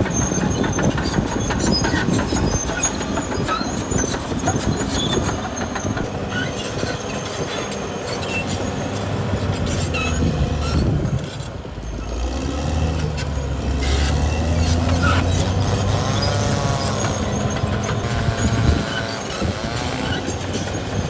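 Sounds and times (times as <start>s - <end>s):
diesel engine running: 0.0s - 21.0s
steel tracks clanking and squealing: 0.0s - 21.0s.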